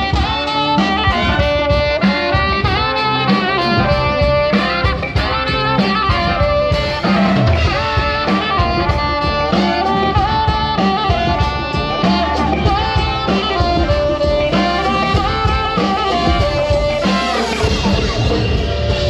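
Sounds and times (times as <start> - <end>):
drum kit beat: 0.0 - 19.0
saxophone and brass horns: 0.0 - 19.0.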